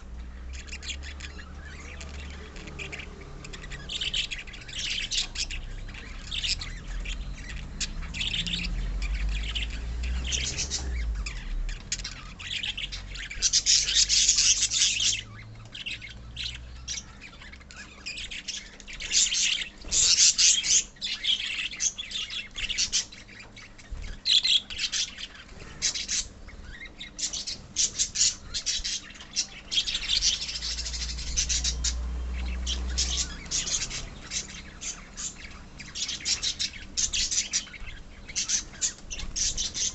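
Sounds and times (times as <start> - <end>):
lovebirds chattering and squawking: 0.0 - 39.9.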